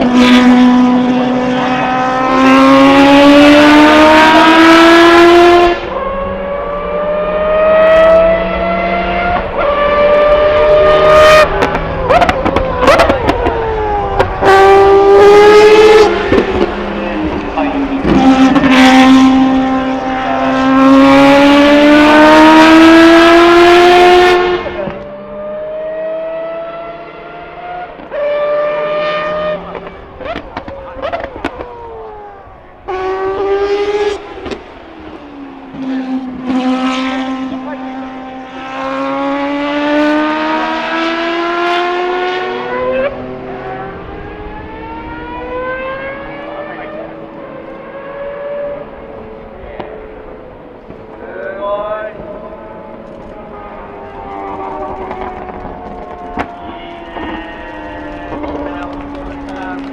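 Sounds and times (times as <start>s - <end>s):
rotary engine accelerating hard: 0.0s - 59.9s.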